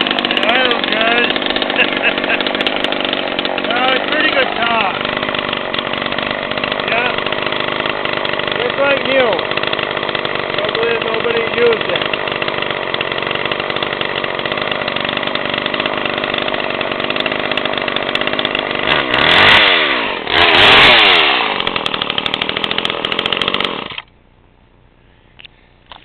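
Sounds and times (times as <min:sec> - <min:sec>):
chainsaw idling and revving: 0:00.0 - 0:24.1.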